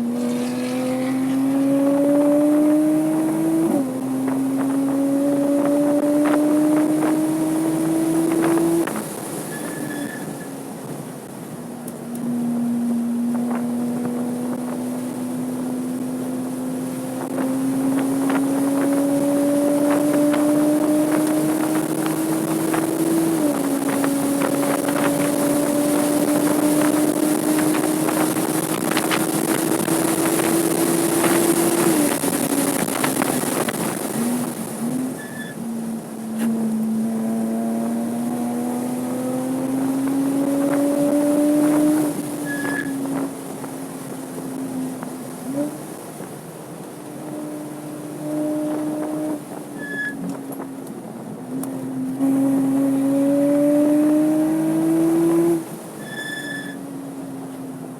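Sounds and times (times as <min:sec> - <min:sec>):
car engine accelerating: 0:00.0 - 0:09.5, 0:12.0 - 0:57.9.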